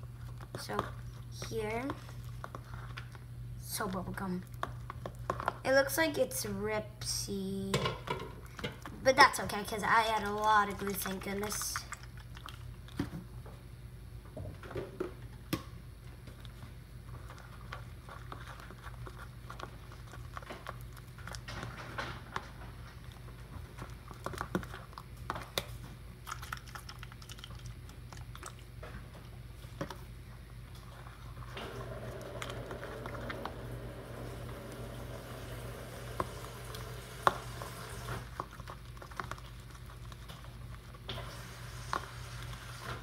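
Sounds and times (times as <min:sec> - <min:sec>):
slime squelching: 0:00.0 - 0:06.6, 0:08.4 - 0:13.2, 0:16.2 - 0:43.0
low background hum: 0:00.0 - 0:43.0.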